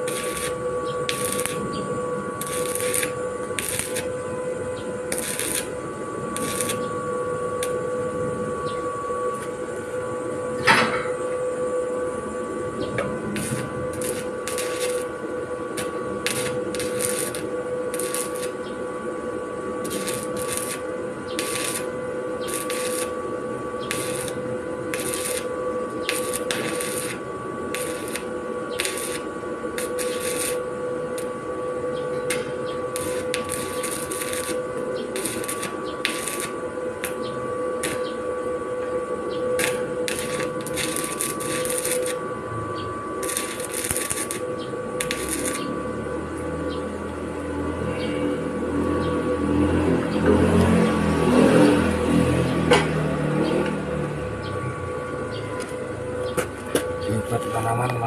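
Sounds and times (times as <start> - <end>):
welding arc crackling: 0.0 - 10.0, 10.6 - 47.1
welder hum: 0.0 - 58.0.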